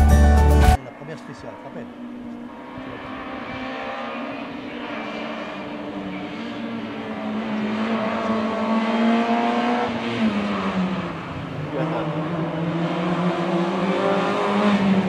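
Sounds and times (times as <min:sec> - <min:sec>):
rally car engine at high revs: 0:00.8 - 0:15.0.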